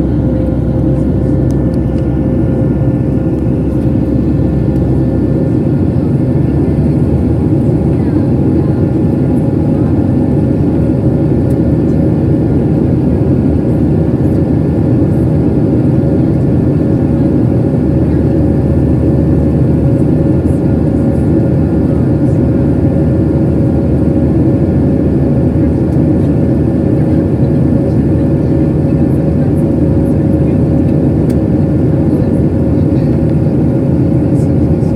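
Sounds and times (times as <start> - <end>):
jet engine drone and airflow: 0.0 - 34.9
steady hum tone: 0.0 - 34.9.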